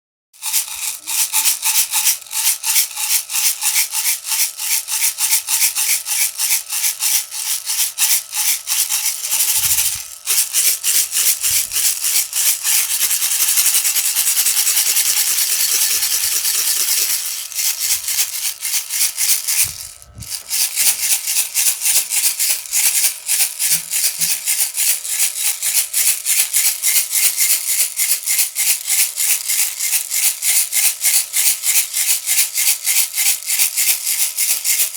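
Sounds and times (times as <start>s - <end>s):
baby rattle shaking: 0.4s - 34.9s.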